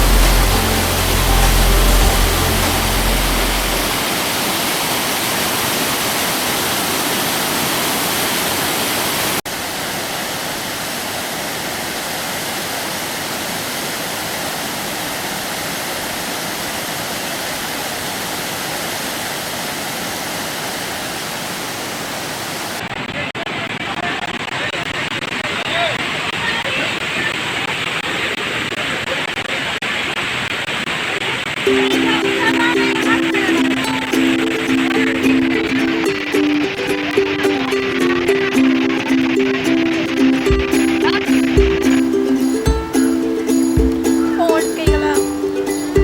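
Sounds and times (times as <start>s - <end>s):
waterfall rushing: 0.0s - 22.9s, 31.0s - 46.0s.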